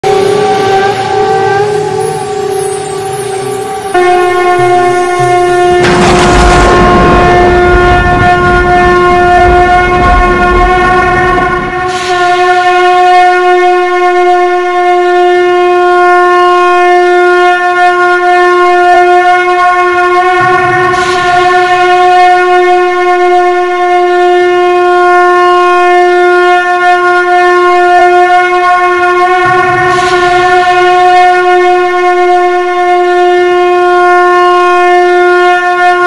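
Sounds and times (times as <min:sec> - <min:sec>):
conch shell blasts: 0:00.0 - 0:36.0.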